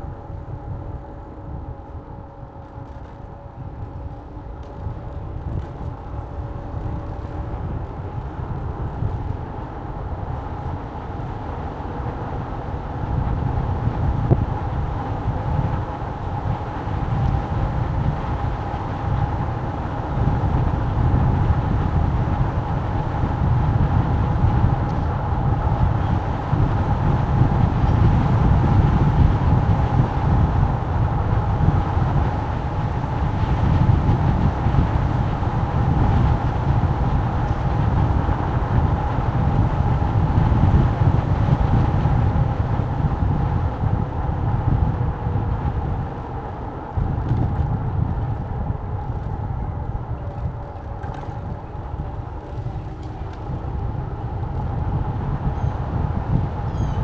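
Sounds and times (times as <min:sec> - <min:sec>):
moving vehicle rumble: 0:00.0 - 0:57.0.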